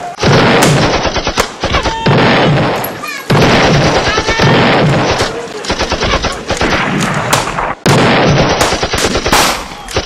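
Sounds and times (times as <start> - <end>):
rapid rifle gunfire: 0.2 - 10.0.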